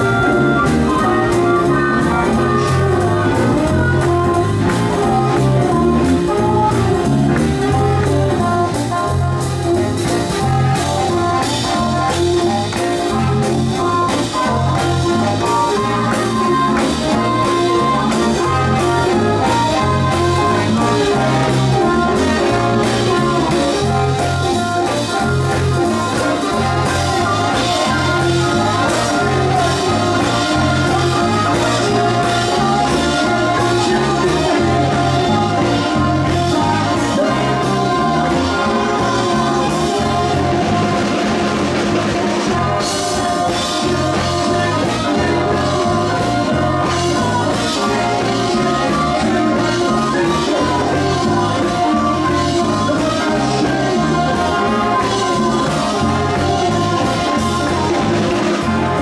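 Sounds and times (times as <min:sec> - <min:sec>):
live swing band music: 0:00.0 - 0:59.0.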